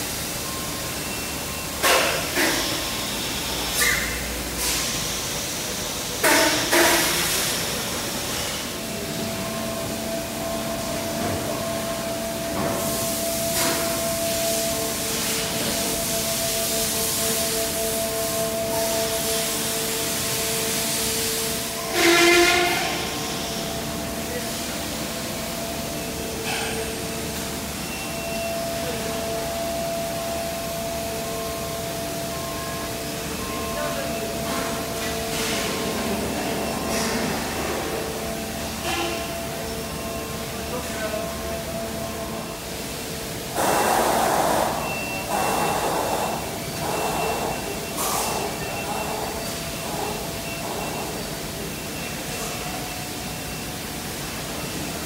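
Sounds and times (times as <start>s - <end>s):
machinery hiss: 0.0s - 55.0s
machinery humming tones: 0.0s - 55.0s
steady factory noise: 0.0s - 55.0s.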